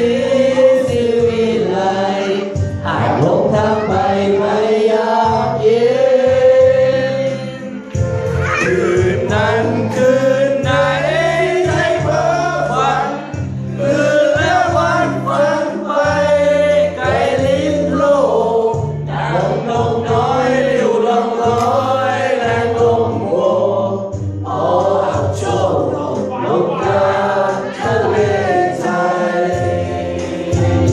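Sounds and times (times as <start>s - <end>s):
band with bass line: 0.0s - 30.9s
sung vocals: 0.0s - 30.9s.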